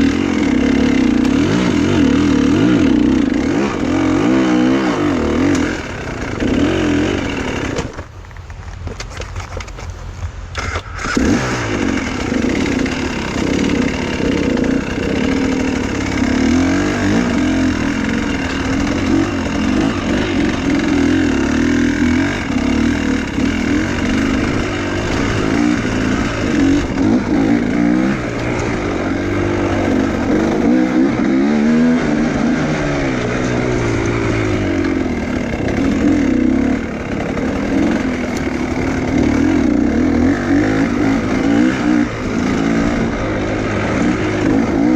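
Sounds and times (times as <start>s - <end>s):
motorcycle engine revving: 0.0s - 8.2s, 10.6s - 44.9s.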